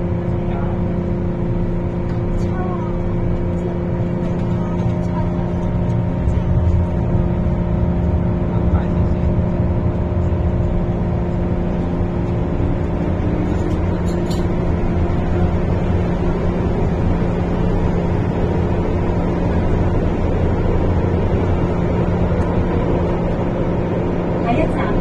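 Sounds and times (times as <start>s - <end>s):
train motor hum: 0.0s - 25.0s
wheels rumbling on rail: 0.0s - 25.0s.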